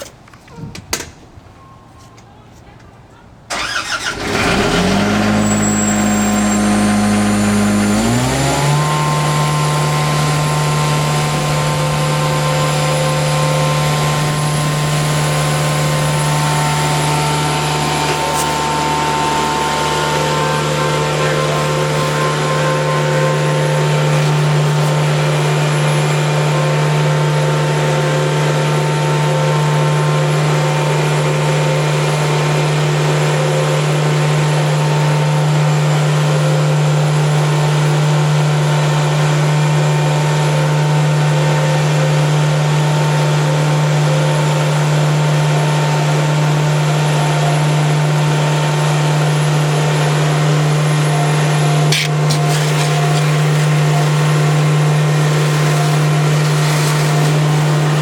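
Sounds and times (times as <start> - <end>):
diesel engine and vacuum blower drone: 3.5 - 58.0.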